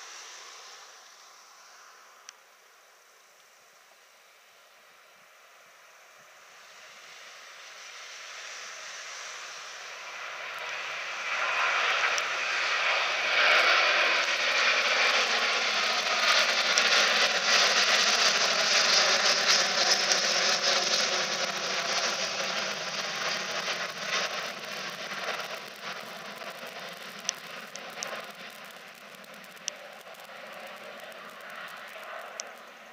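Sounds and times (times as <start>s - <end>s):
jet engine roar: 0.0s - 3.0s, 4.9s - 32.9s.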